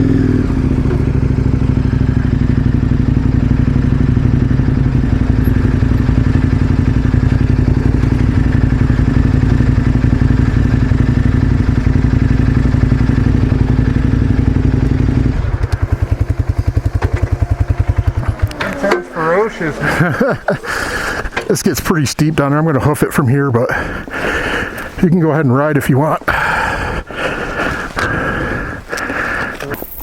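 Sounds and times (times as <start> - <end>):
motorcycle engine running: 0.0 - 24.7.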